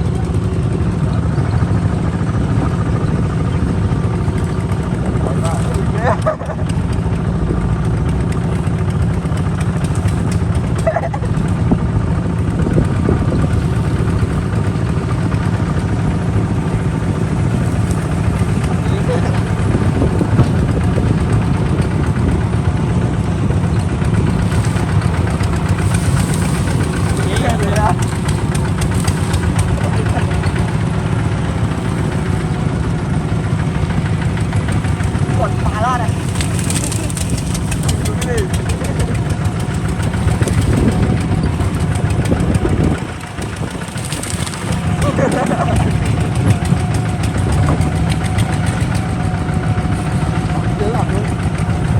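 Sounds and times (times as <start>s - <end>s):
diesel engine chugging: 0.0s - 51.9s.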